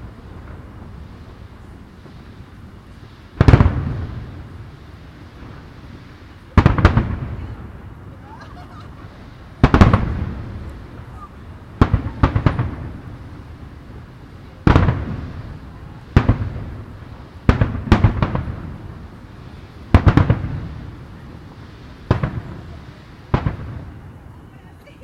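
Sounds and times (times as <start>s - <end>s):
fireworks booming: 0.0s - 25.0s.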